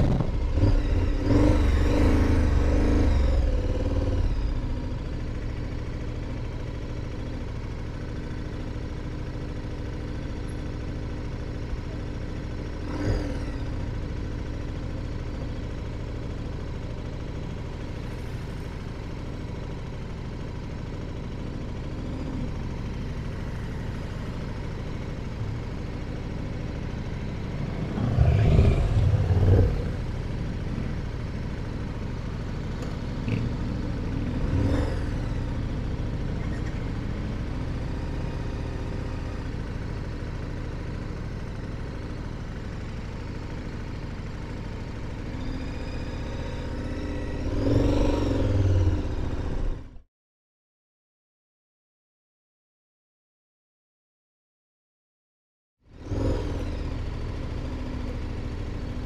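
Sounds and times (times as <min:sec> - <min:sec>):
motorcycle engine running: 0:00.0 - 0:50.0, 0:55.8 - 0:59.0
road noise: 0:00.0 - 0:50.0, 0:55.8 - 0:59.0.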